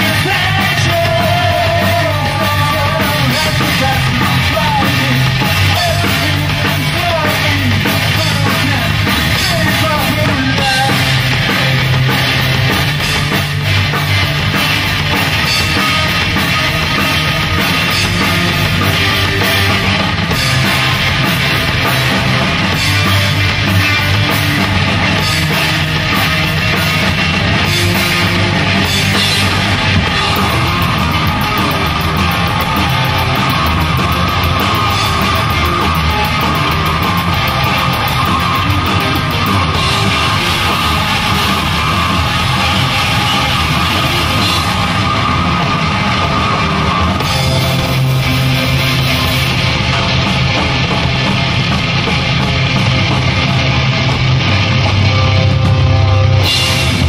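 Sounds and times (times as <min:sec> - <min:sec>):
bass guitar: 0:00.0 - 0:57.0
distorted electric guitar: 0:00.0 - 0:57.0
drum kit: 0:00.0 - 0:57.0.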